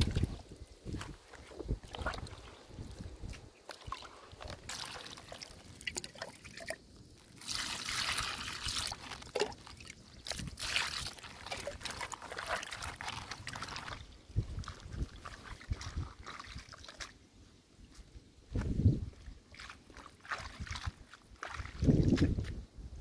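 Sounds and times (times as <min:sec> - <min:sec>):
water splashing in a plastic basin: 0:00.0 - 0:17.2, 0:19.2 - 0:22.6.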